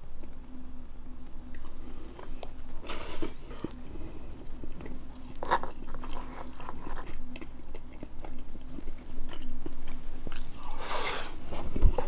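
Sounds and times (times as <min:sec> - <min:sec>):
person chewing: 0:01.5 - 0:12.0.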